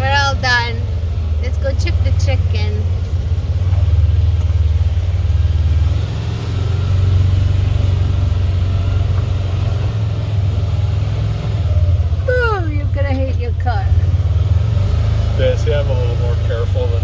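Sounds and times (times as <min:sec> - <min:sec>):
farm vehicle engine running: 0:00.0 - 0:17.0.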